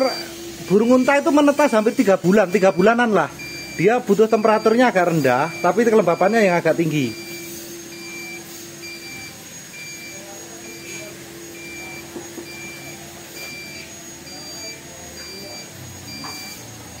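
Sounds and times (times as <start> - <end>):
fan humming: 0.0 - 17.0
two-tone electronic beep: 0.0 - 17.0.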